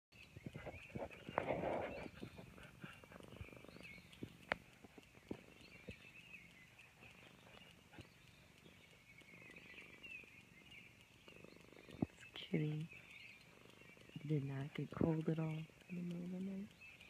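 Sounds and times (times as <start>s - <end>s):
handling clicks and rustles: 0.2s - 16.0s
cat purring: 0.2s - 17.0s.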